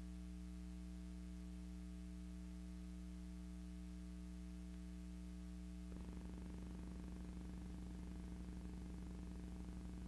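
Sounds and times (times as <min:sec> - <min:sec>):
fluttering electrical hum: 0:00.0 - 0:10.0.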